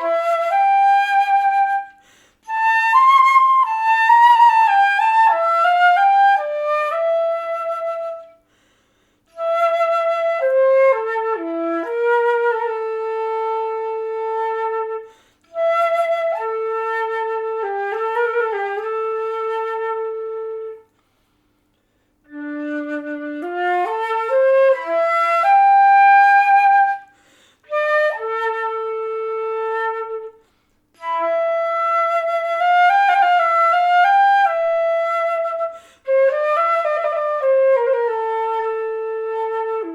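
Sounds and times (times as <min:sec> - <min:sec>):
solo flute melody: 0:00.0 - 0:08.6, 0:09.2 - 0:21.3, 0:22.0 - 0:39.9.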